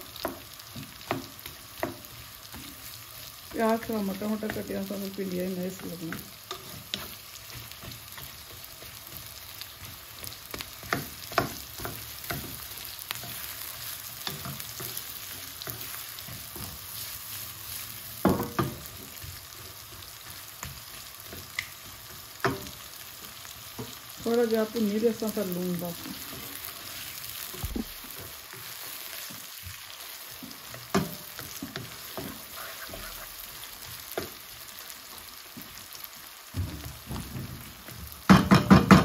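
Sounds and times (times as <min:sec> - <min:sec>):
onions sizzling in hot oil: 0:00.0 - 0:39.0.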